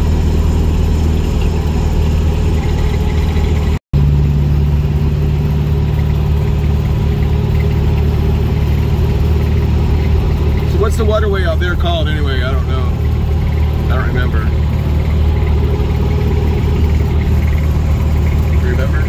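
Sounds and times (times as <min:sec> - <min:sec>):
car engine drone: 0:00.0 - 0:19.0
road noise: 0:00.0 - 0:19.0.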